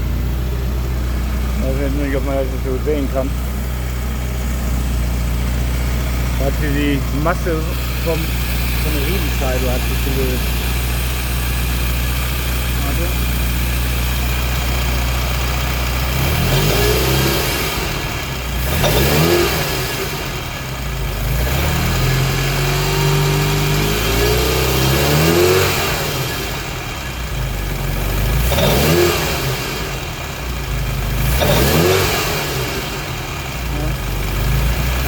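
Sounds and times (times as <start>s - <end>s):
car engine idling and revving: 0.0s - 35.0s
engine clatter: 0.0s - 35.0s.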